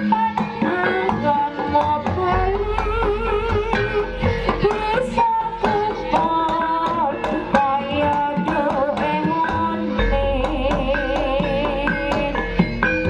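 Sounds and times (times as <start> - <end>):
fast drum strokes: 0.0 - 13.0
wavering melody: 0.0 - 13.0.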